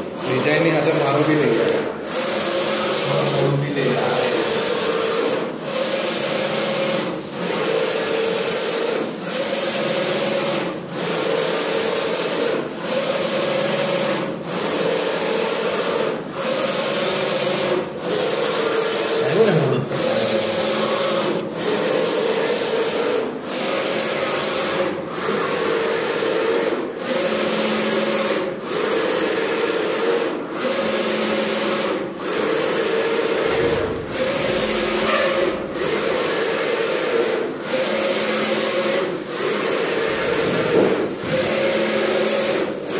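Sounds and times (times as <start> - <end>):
screen printing machine running: 0.0 - 42.9.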